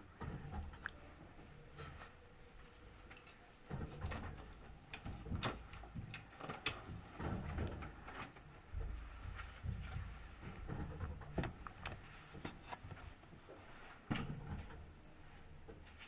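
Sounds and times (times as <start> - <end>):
washing machine low rumble: 0.0 - 16.0
washing machine knocking and rattling: 0.1 - 1.8, 3.6 - 16.0.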